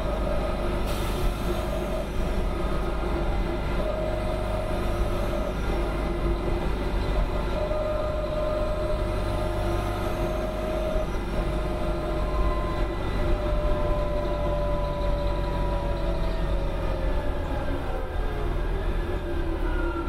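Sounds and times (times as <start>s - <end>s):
bus engine rumble: 0.0s - 20.0s
engine whine: 0.0s - 20.0s.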